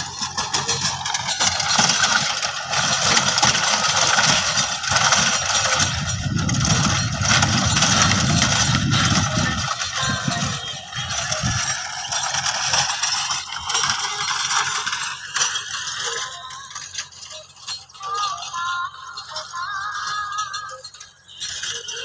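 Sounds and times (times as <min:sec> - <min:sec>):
rotary tiller clattering: 0:00.0 - 0:22.0
tractor engine running: 0:00.0 - 0:22.0.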